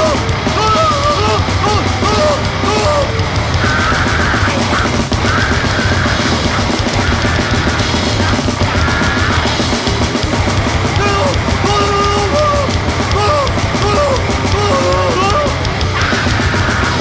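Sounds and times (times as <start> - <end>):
distorted grindcore music: 0.0 - 17.0.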